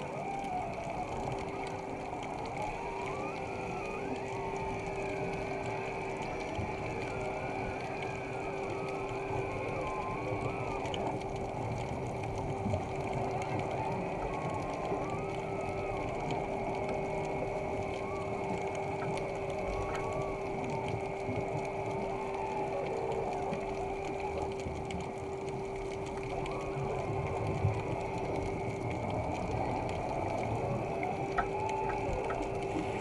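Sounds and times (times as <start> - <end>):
exhaled air bubbling underwater: 0.0 - 33.0.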